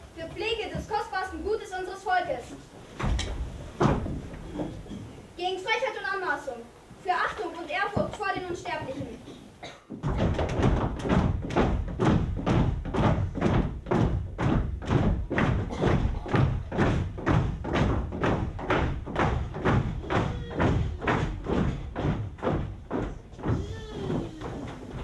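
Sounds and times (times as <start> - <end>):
feet stamping on stage floor: 2.8 - 5.4, 7.0 - 25.0.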